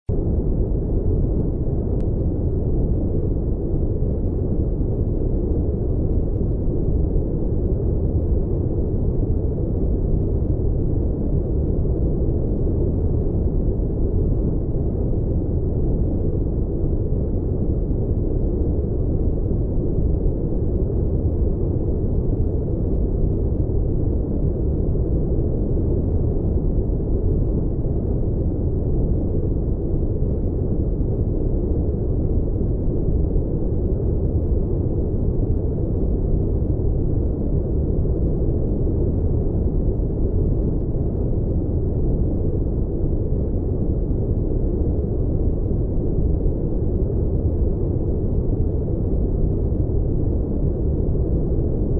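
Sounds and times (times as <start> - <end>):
deep brown noise rumble: 0.0 - 51.9.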